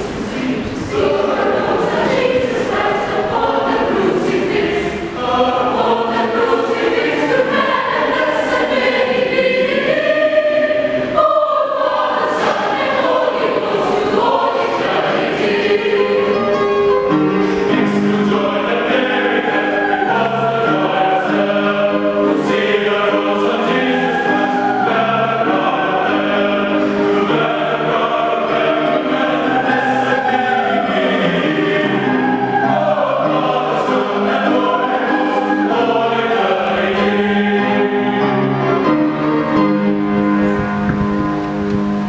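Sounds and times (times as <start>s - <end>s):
mixed choir singing a hymn: 0.0s - 41.0s.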